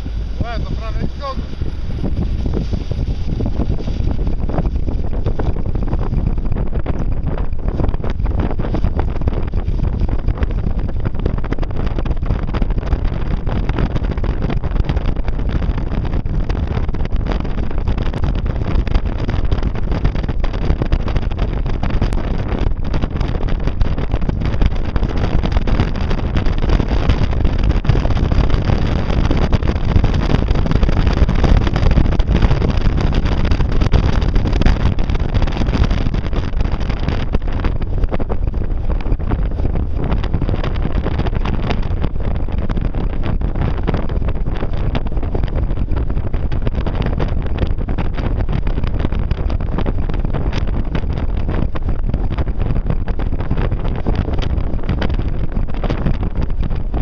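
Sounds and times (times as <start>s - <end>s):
car running noise: 0.0s - 57.0s
wind rushing on microphone: 0.0s - 57.0s.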